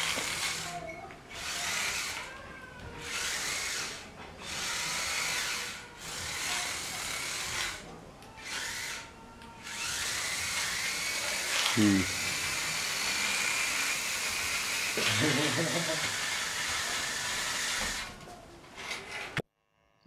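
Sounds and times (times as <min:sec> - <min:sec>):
small gear motors whirring: 0:00.0 - 0:19.4.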